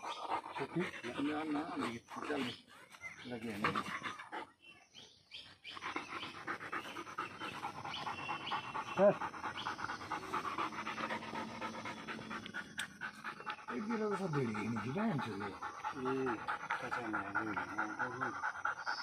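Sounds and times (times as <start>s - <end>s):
dog panting hard: 0.0s - 19.0s.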